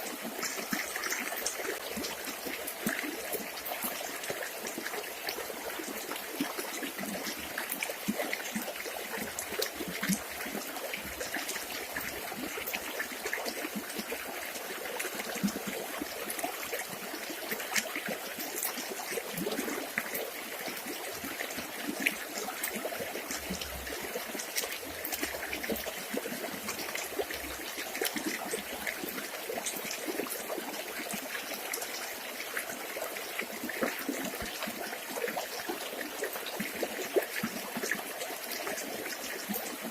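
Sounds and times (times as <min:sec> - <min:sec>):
river water flowing: 0:00.0 - 0:39.9
small water splashes: 0:00.0 - 0:39.9.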